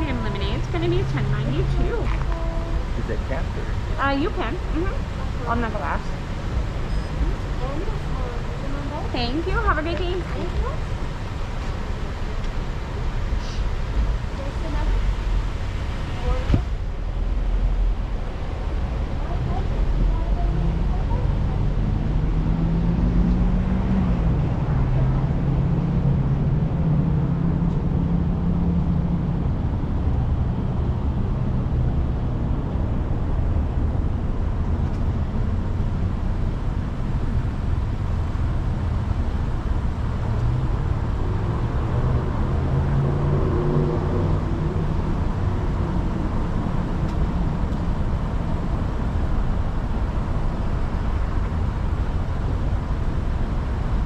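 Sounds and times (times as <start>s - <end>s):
car engine and road noise: 0.0s - 54.0s
deep hum: 0.0s - 54.0s.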